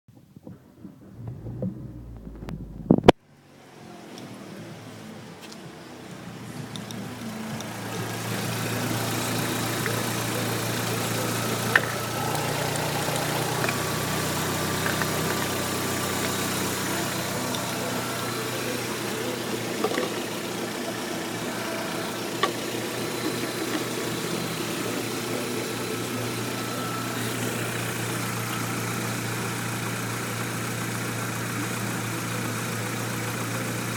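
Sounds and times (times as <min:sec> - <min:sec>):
car engine idling: 0:00.5 - 0:03.2, 0:04.0 - 0:33.9.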